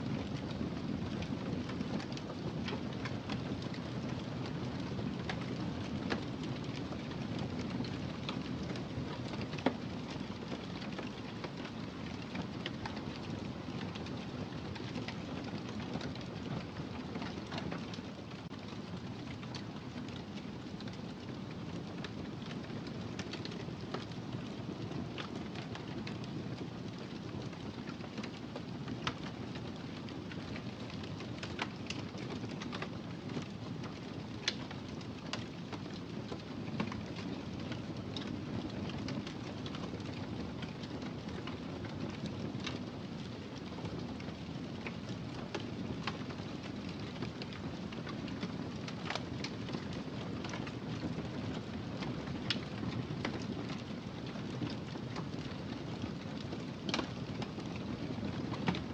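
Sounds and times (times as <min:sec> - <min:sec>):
wood fire crackling: 0:00.0 - 0:58.9
fire pops and snaps: 0:01.1 - 0:58.9.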